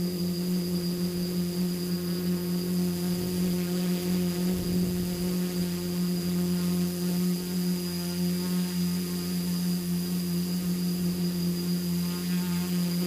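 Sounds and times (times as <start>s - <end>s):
drone motors buzzing: 0.0s - 13.0s
thin high whine: 0.0s - 13.0s.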